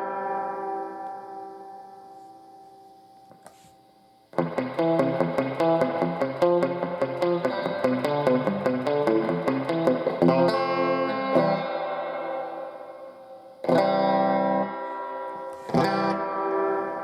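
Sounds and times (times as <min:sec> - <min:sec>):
electric guitar notes and chords: 0:00.0 - 0:03.4, 0:04.3 - 0:17.0.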